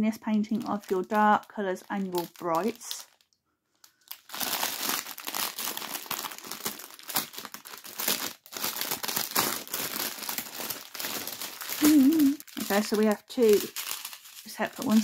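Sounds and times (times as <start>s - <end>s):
plastic bag crinkling: 0.2s - 15.0s.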